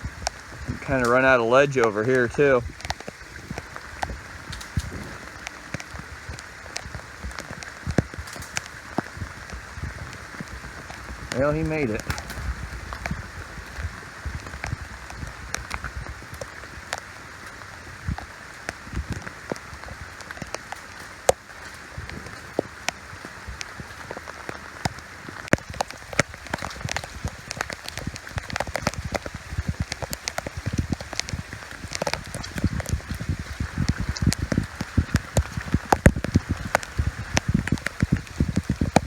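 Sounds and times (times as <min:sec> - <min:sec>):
rain falling: 0:00.0 - 0:39.0
sharp drips of drops: 0:00.2 - 0:39.0.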